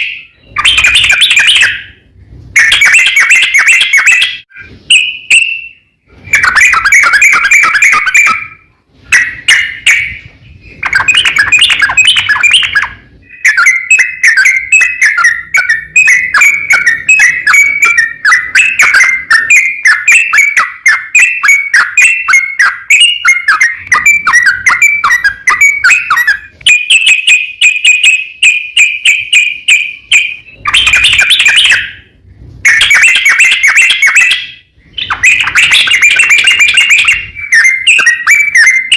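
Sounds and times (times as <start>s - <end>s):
bulbul singing chattering notes: 0.0s - 38.9s.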